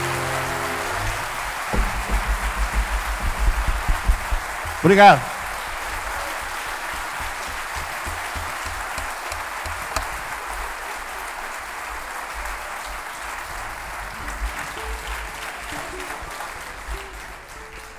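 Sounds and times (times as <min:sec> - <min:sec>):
audience applauding: 0:00.0 - 0:17.9.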